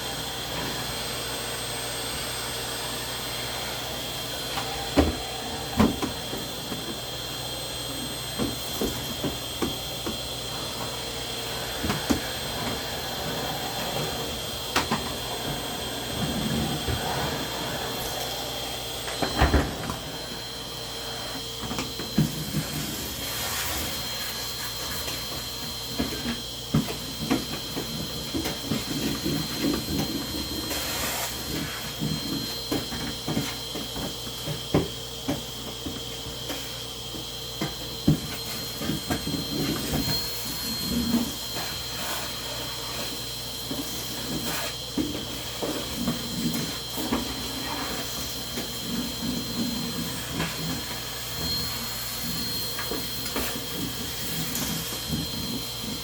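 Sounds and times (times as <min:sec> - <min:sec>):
machine hum with high whine: 0:00.0 - 0:56.0.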